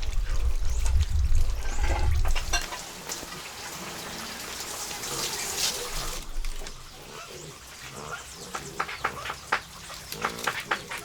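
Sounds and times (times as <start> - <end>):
running water splashing: 0.0 - 11.0.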